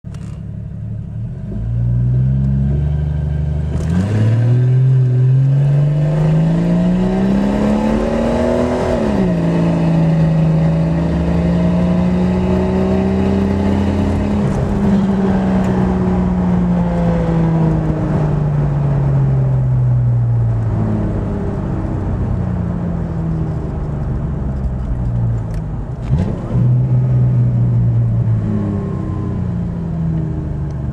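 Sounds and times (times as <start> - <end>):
car engine revving: 1.2 - 30.9.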